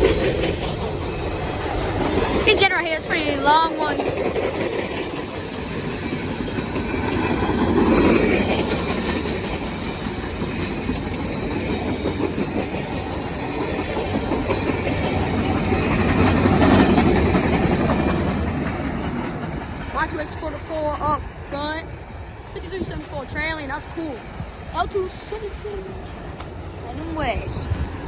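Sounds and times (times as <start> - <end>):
freight train rolling past: 0.0 - 28.0
wheels clacking over rail joints: 0.0 - 28.0.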